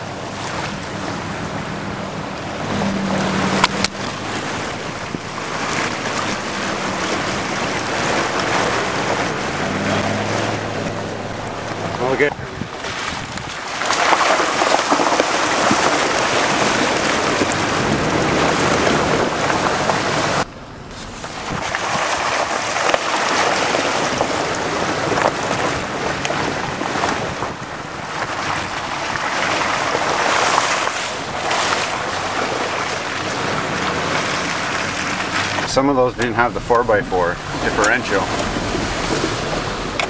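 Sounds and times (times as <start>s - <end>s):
tyres churning through mud: 0.0s - 40.0s
water splashing: 0.0s - 40.0s
wind buffeting microphone: 0.0s - 40.0s.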